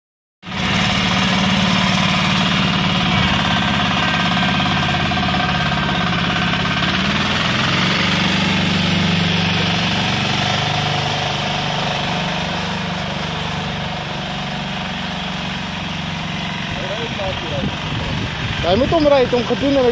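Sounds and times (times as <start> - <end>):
garden tractor diesel engine: 0.4 - 19.9.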